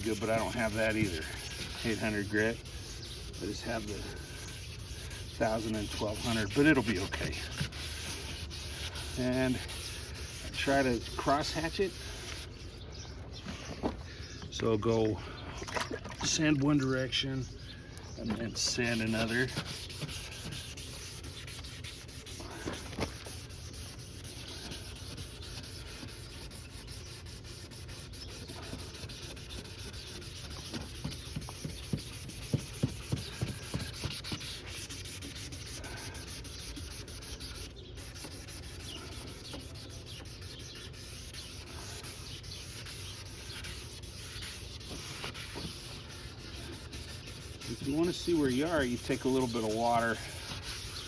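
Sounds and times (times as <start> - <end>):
sandpaper rasping on plastic: 0.0 - 12.7, 18.3 - 51.0.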